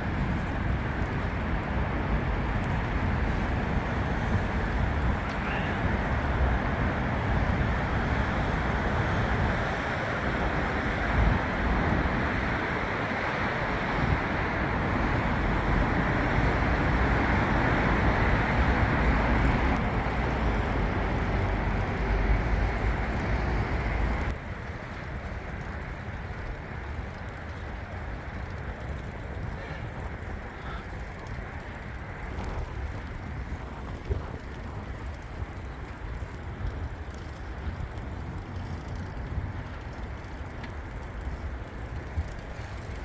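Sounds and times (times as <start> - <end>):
bicycle wind and rolling noise: 0.0 - 43.0.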